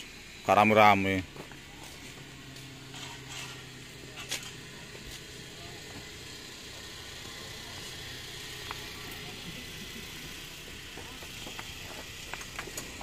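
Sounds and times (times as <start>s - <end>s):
vehicle idling hum: 0.0s - 13.0s.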